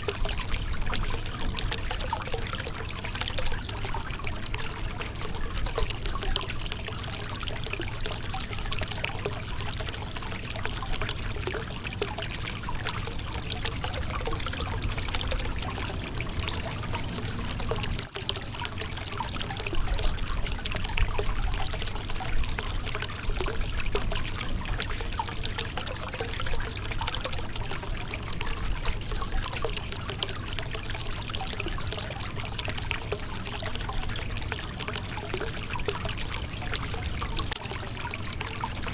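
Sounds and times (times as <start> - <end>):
river water trickling over rocks: 0.0 - 38.9.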